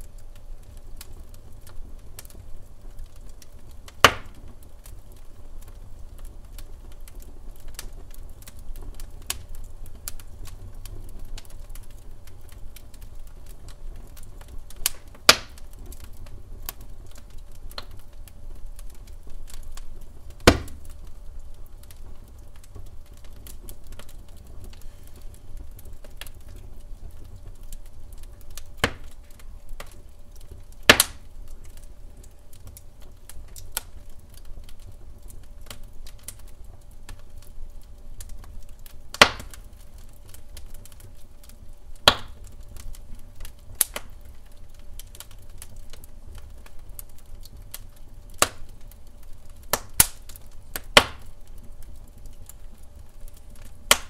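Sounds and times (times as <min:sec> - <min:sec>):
burning log popping: 0:00.0 - 0:54.0
fire rumbling and crackling: 0:00.0 - 0:54.0.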